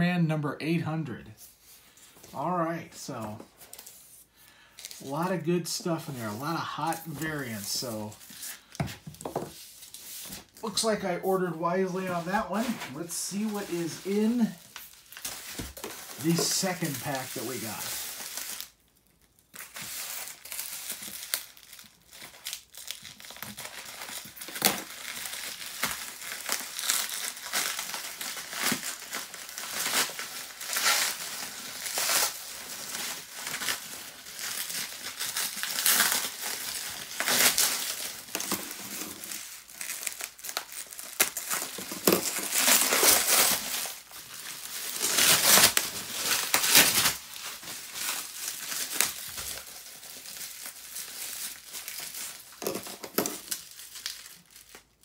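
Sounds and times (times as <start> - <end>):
bubble wrap crinkling: 3.2 - 55.0.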